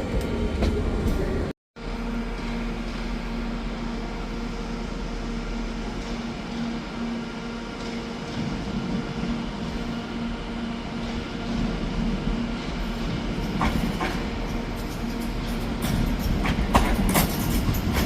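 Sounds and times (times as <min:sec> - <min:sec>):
train mechanical drone: 0:00.0 - 0:18.0.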